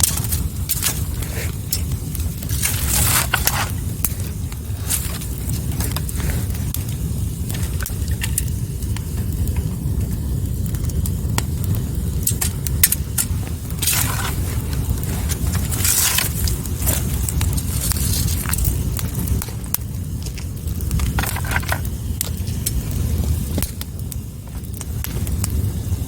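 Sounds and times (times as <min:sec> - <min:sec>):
hissing spurts: 0:00.0 - 0:08.6, 0:12.2 - 0:25.9
fire crackles and pops: 0:00.0 - 0:26.0
fire low rumble: 0:00.0 - 0:26.0.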